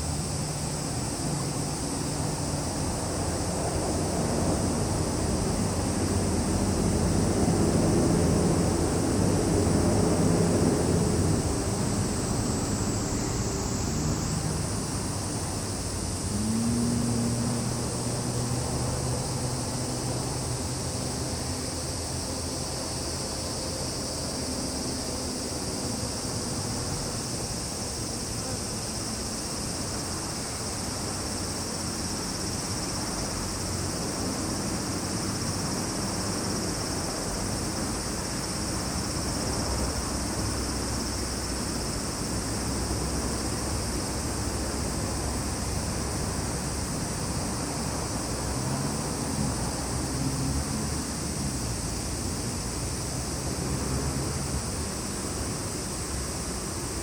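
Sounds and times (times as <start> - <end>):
insects chorus shrill drone: 0.0 - 57.0.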